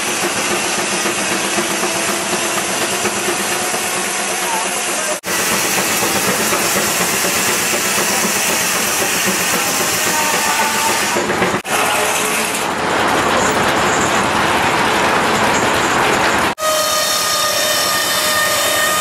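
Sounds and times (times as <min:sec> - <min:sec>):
steam sawmill machinery running: 0:00.0 - 0:19.0.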